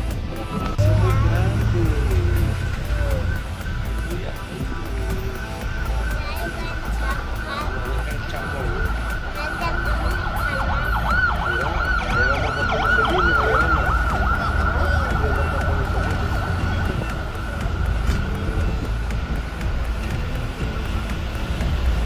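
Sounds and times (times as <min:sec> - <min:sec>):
traffic rumble: 0:00.0 - 0:22.0
wind: 0:00.0 - 0:22.0
steady high tone: 0:00.3 - 0:20.4
siren yelping: 0:00.4 - 0:18.3.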